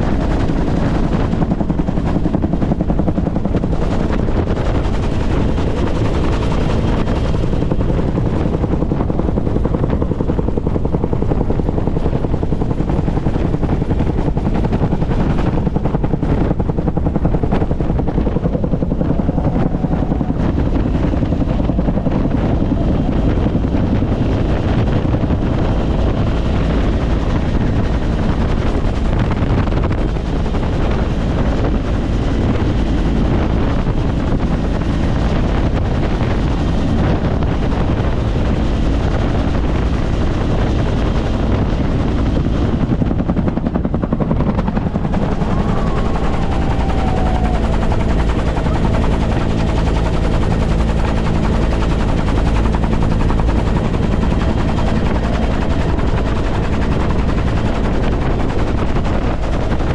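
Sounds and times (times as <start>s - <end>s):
helicopter turbine and rotor: 0.0s - 59.9s
wind buffeting microphone: 0.0s - 59.9s.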